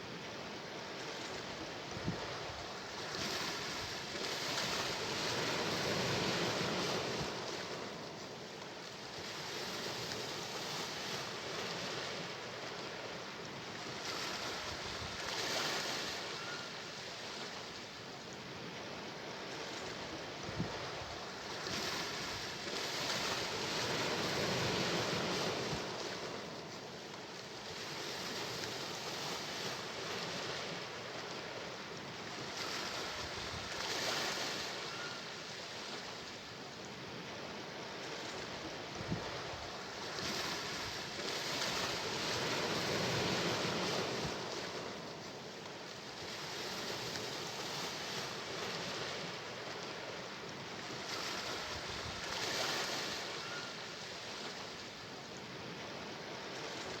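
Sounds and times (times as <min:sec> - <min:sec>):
sea waves washing onto shore: 0:00.0 - 0:57.0.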